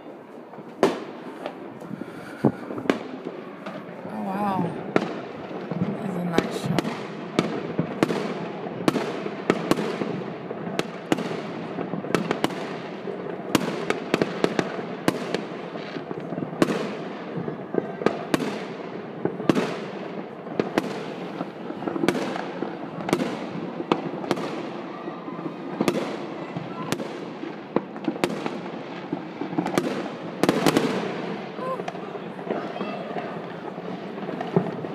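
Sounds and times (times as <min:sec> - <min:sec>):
continuous din of fireworks: 0:00.0 - 0:34.9
sharp firework bangs with echo: 0:00.5 - 0:34.9.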